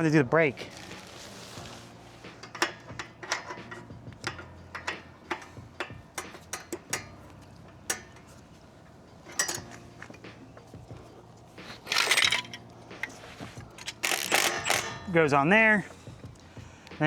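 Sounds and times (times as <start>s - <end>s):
light metallic clicks and clinks: 0.6s - 17.0s.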